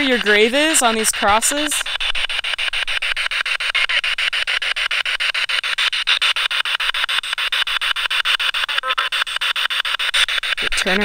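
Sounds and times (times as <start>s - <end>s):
chopped radio static hiss: 0.0s - 11.0s.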